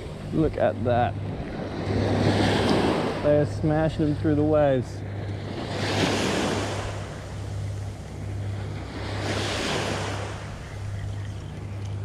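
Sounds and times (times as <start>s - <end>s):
small waves breaking on sand: 0.0s - 12.0s.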